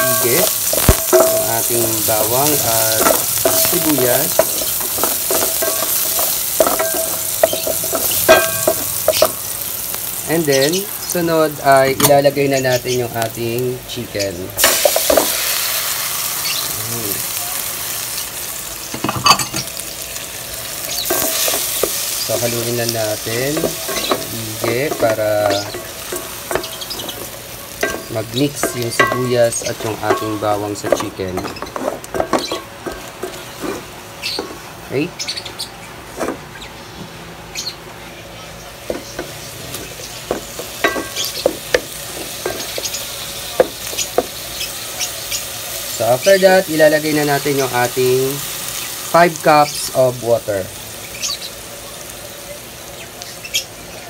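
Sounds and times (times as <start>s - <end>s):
chicken sizzling in hot oil: 0.0s - 35.0s, 38.8s - 54.0s.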